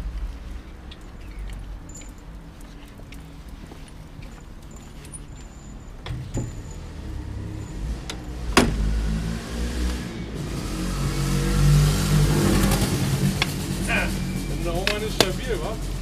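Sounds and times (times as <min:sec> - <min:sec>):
motor vehicle engine rumble: 0:00.0 - 0:16.0.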